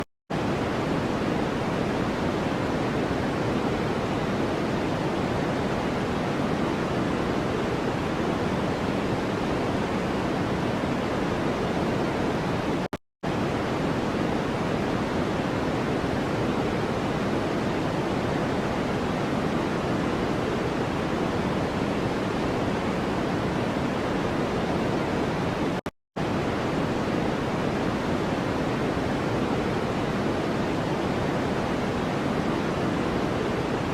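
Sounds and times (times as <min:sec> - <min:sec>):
white noise hiss: 0:00.4 - 0:33.9.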